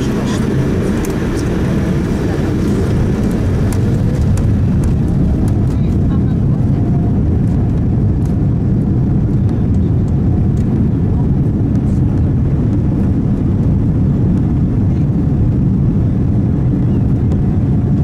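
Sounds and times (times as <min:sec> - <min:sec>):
aircraft engines low rumble: 0:00.0 - 0:18.0.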